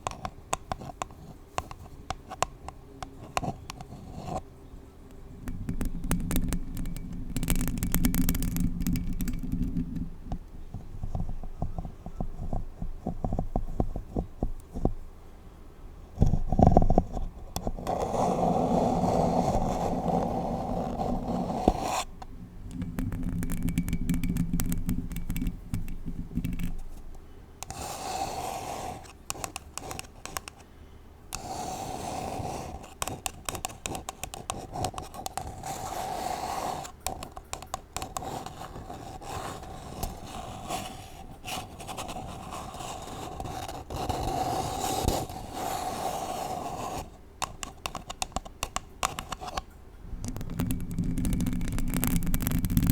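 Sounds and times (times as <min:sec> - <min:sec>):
nails scratching paper cup: 0:00.0 - 0:04.4, 0:05.4 - 0:14.9, 0:16.3 - 0:30.7, 0:31.3 - 0:52.9.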